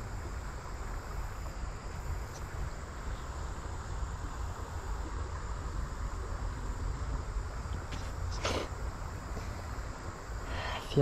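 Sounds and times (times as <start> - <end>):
faint insect trill: 0.0 - 11.0
wind rumble on microphone: 0.0 - 11.0.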